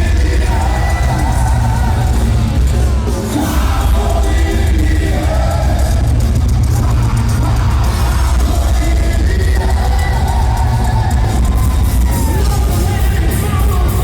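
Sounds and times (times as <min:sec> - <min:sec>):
crowd noise: 0:00.0 - 0:14.0
shouted vocals: 0:00.0 - 0:14.0
thrash metal band playing: 0:00.0 - 0:14.0.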